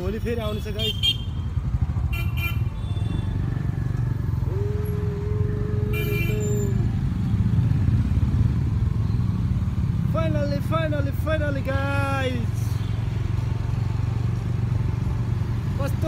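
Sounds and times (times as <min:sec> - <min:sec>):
passing motorcycles and cars: 0:00.0 - 0:16.0.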